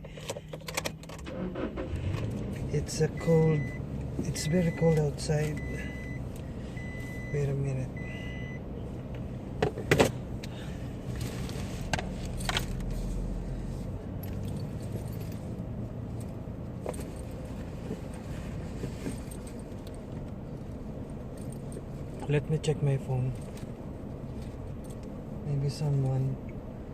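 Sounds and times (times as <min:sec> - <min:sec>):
car engine humming: 0:00.0 - 0:26.9.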